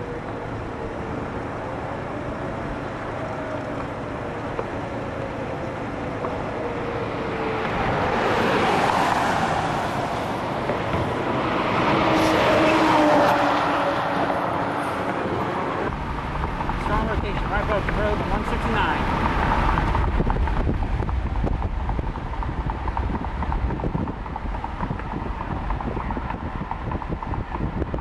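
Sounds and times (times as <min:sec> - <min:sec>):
highway traffic road noise: 0:00.0 - 0:28.0
truck going by: 0:00.0 - 0:28.0
vehicle passing: 0:02.0 - 0:28.0.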